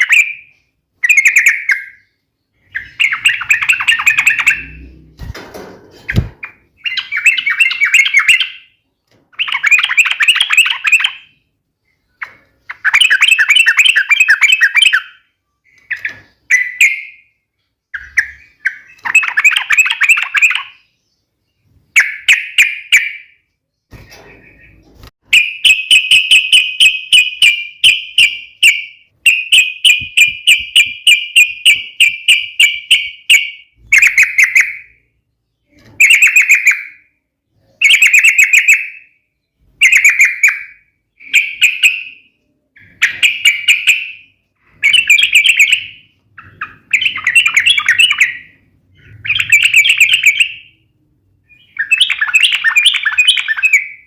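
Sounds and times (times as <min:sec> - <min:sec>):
bird chattering song: 0:00.0 - 0:05.3, 0:06.0 - 0:54.0.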